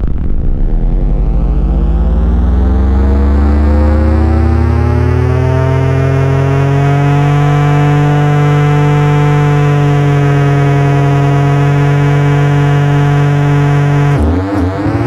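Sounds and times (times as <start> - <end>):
steady electronic drone: 0.0 - 15.0.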